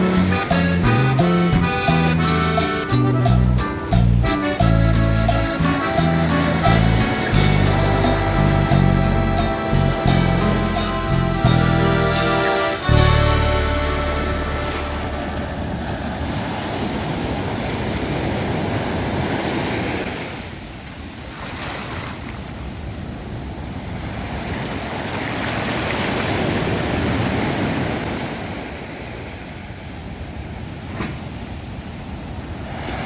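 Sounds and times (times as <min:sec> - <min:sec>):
sea waves breaking: 0:00.0 - 0:33.0.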